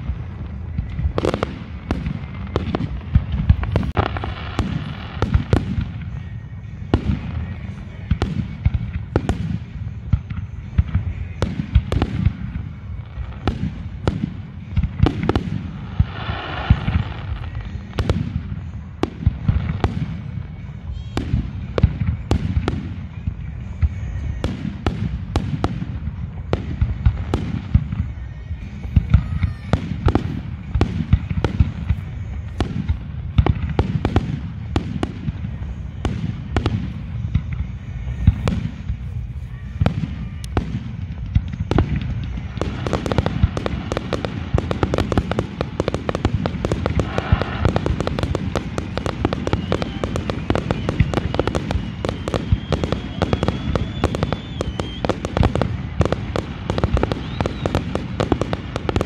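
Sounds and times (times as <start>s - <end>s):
fireworks booming: 0.0s - 59.0s.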